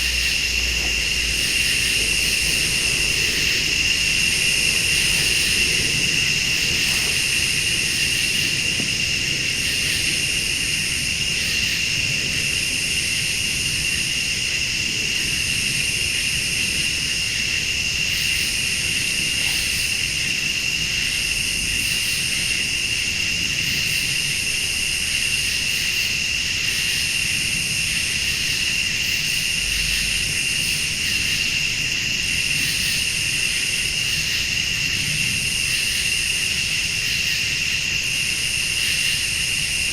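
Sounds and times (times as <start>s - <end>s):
crickets trilling: 0.0s - 39.9s
high insect call: 0.0s - 39.9s.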